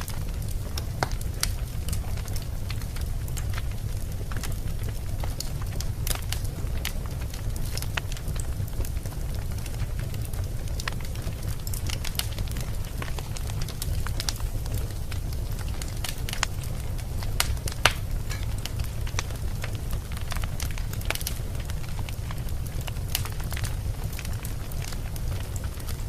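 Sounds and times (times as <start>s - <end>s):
fire crackling and popping: 0.0s - 26.0s
steady low rumble: 0.0s - 26.0s.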